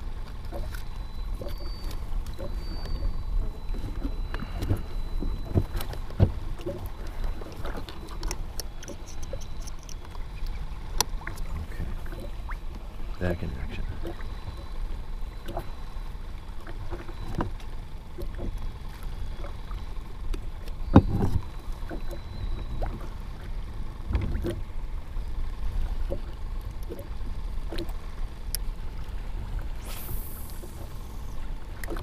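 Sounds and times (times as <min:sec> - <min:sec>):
steady low rumble: 0:00.0 - 0:32.0
waves lapping against plastic hull: 0:00.0 - 0:32.0.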